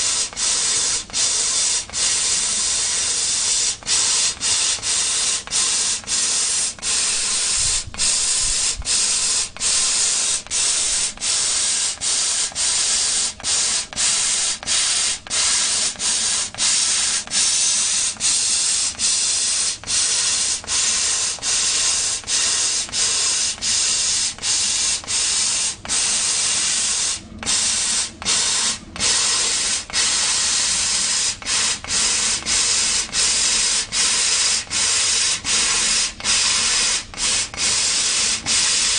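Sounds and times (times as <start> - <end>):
laser cutter hissing: 0.0 - 38.9.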